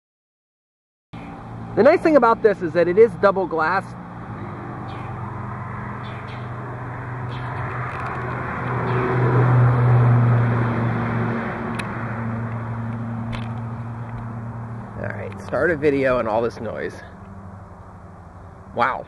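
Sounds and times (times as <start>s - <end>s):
car passing: 1.2s - 19.0s
road traffic hum: 1.2s - 19.0s.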